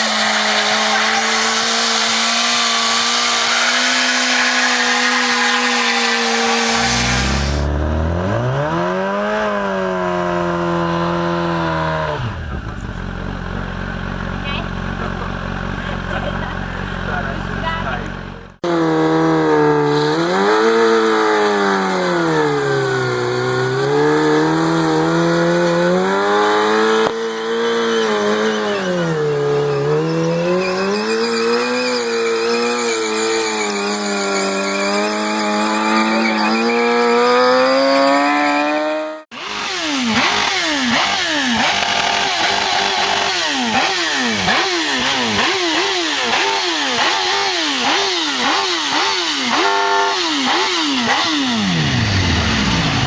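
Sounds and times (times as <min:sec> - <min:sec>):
engine revving sharply: 0:00.0 - 0:13.0, 0:18.6 - 0:53.0
motorcycle engine running: 0:07.2 - 0:31.8, 0:32.5 - 0:53.0.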